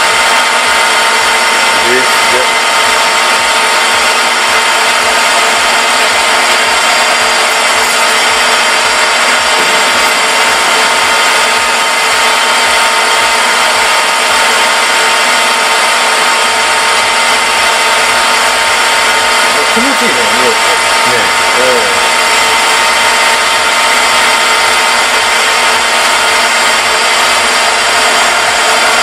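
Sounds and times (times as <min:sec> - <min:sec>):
metal lathe cutting: 0:00.0 - 0:29.0.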